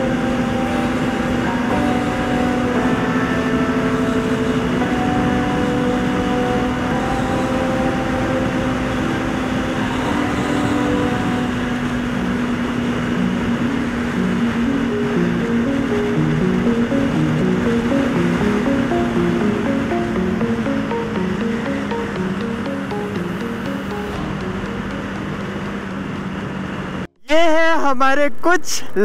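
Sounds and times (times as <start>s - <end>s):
motorcycle engine cruising: 0.0s - 27.1s.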